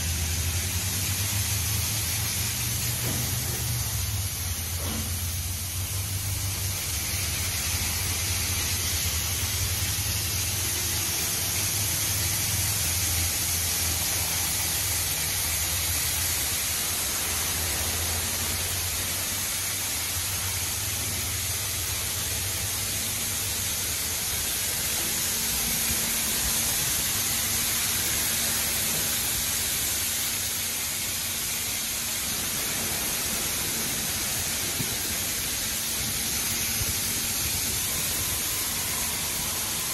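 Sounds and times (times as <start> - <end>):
car wash spraying high-pressure water: 0.0 - 39.9.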